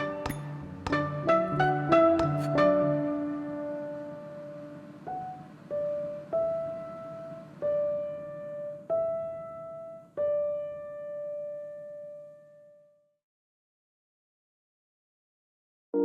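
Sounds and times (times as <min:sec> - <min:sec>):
slow piano notes: 0:00.0 - 0:12.8.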